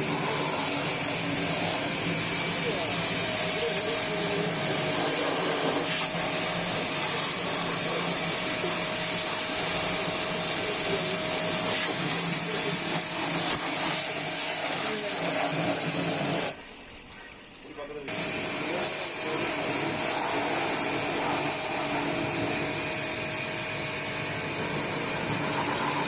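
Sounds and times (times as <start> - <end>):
pressure washer running: 0.0 - 16.6, 18.0 - 26.0.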